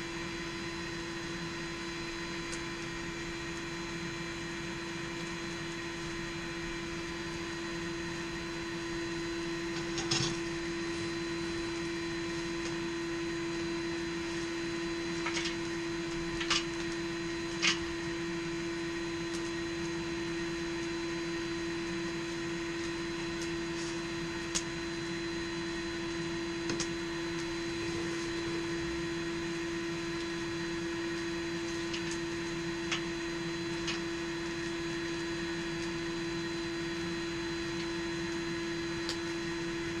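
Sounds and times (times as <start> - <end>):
electric motor hum: 0.0 - 40.0.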